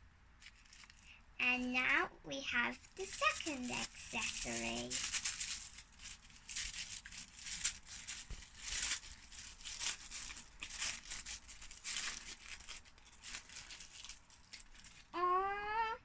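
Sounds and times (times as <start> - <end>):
plastic packaging crackling and tearing: 0.4 - 1.1, 2.6 - 15.8.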